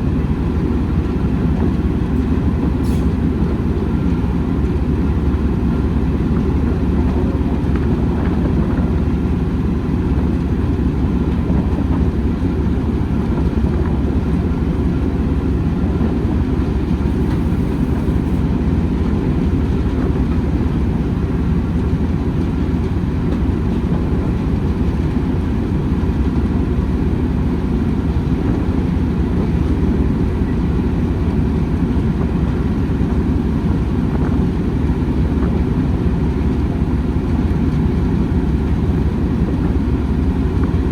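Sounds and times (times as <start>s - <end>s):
moving train rumble: 0.0s - 40.9s.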